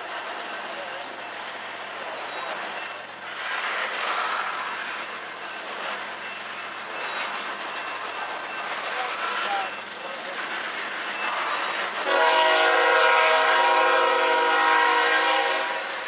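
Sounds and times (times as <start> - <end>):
freight train cars rolling: 0.0 - 16.0.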